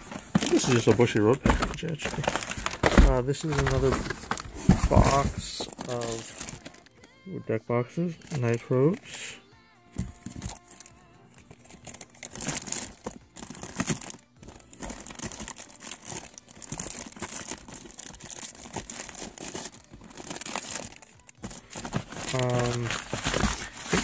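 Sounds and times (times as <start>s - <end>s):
packing paper crinkling: 0.0s - 6.9s, 8.2s - 9.1s, 10.0s - 24.0s.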